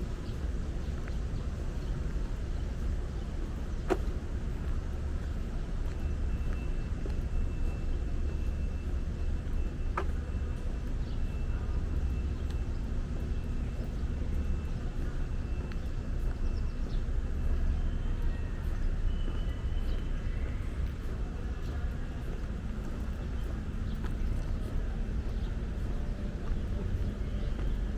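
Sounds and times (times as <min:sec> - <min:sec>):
city traffic rumble: 0:00.0 - 0:27.9.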